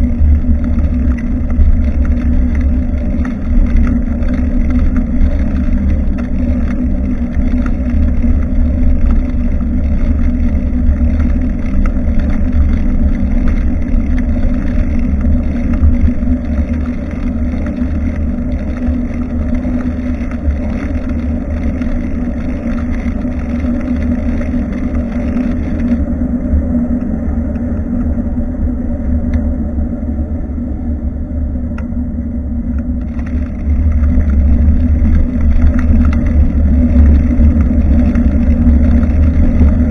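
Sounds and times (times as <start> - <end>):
road rumble: 0.0 - 39.9
wind on microphone: 0.0 - 39.9.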